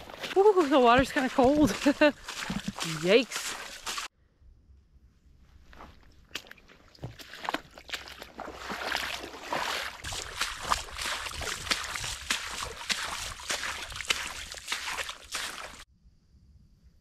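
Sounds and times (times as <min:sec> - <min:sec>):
footsteps splashing in shallow water: 0:00.0 - 0:04.1, 0:05.7 - 0:15.9.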